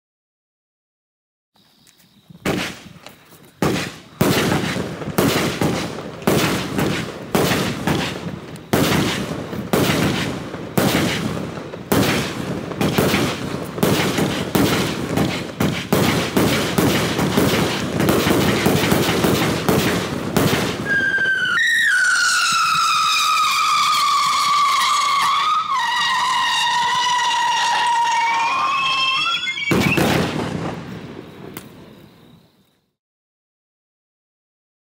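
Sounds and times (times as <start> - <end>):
firework shots and bursts: 2.4 - 3.0, 3.6 - 31.9
firework crackle: 2.4 - 32.1
whistling firework falling in pitch: 2.4 - 32.8.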